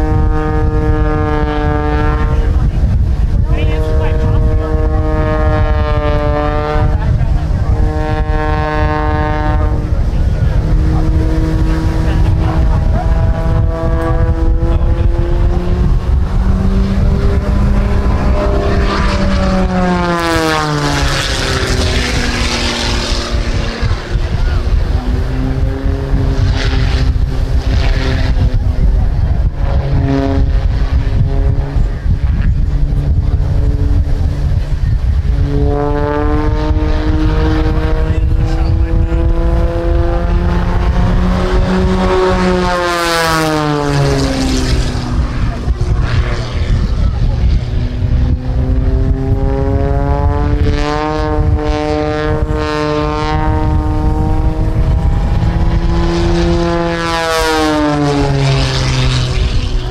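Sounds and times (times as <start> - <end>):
propeller airplane engine droning: 0.0 - 59.9
wind rumbling on microphone: 0.0 - 59.9.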